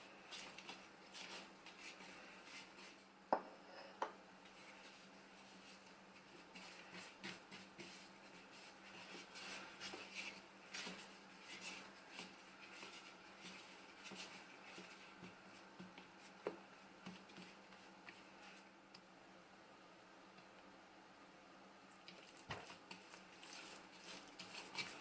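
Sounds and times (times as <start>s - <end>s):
scraping and rustling of food preparation: 0.0s - 18.9s, 21.8s - 25.0s
low steady hum: 0.0s - 25.0s.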